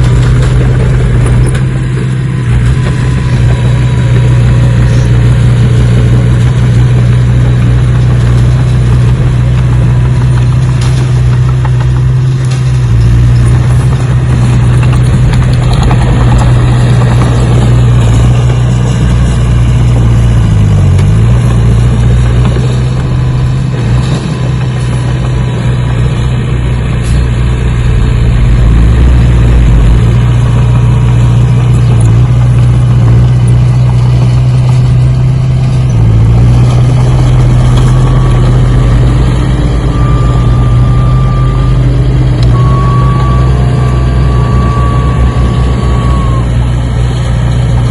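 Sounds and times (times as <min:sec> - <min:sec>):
engine running: 0:00.0 - 0:47.9.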